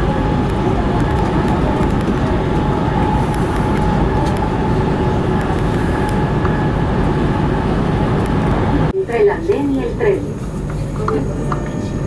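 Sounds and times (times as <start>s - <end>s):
constant whine: 0.0s - 12.0s
train wheels rumbling on rail: 0.0s - 12.0s.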